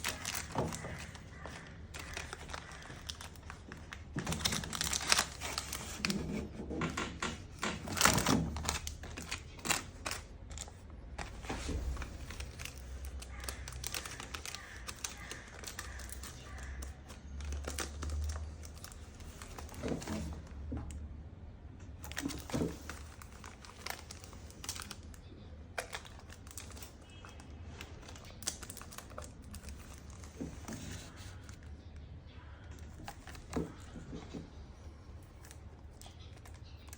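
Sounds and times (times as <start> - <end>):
plastic film crinkling: 0.0 - 6.6, 7.4 - 20.6, 22.0 - 31.7, 35.2 - 36.9.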